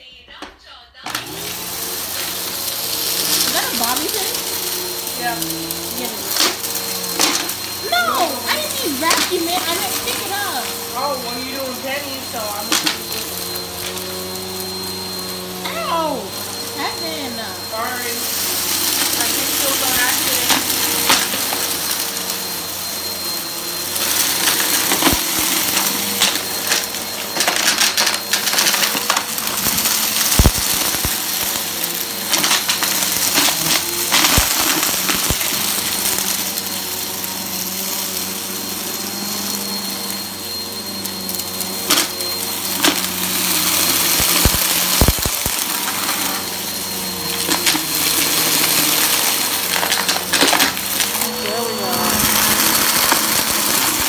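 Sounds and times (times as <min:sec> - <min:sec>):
vacuum cleaner motor whine: 0:01.0 - 0:54.0
debris crackling in vacuum: 0:01.2 - 0:54.0.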